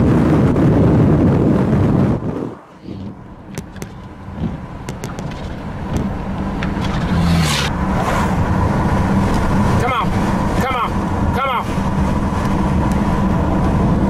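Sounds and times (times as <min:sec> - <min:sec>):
low engine hum: 0:00.0 - 0:14.0
car passing with tyre noise: 0:01.4 - 0:14.0.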